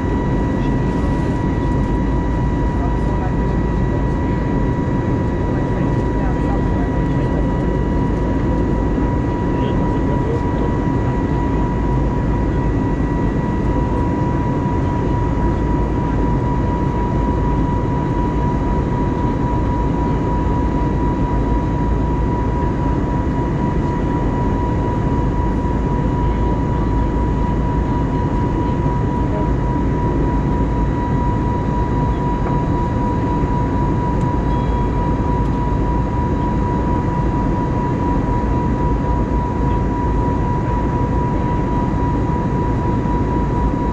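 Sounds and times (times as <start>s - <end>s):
aircraft engine and airflow roar: 0.0s - 43.9s.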